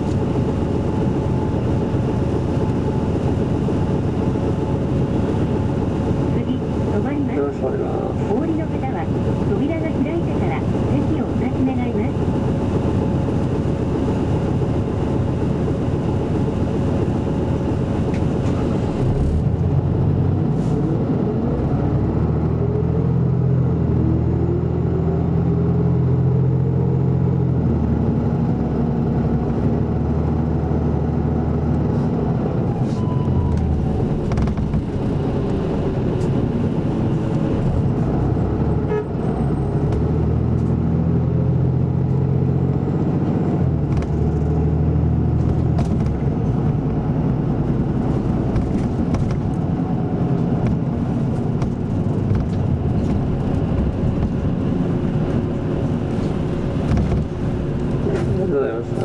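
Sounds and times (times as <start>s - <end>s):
bus diesel engine: 0.0s - 59.0s.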